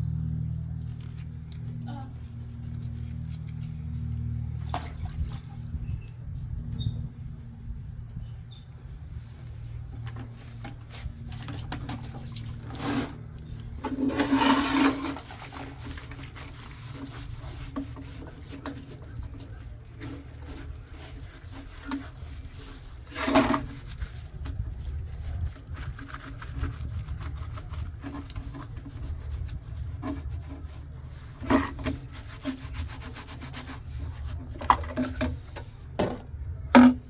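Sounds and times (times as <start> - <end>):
steady low hum: 0.0 - 37.0
rubbing and scraping: 0.4 - 6.5, 8.8 - 37.0.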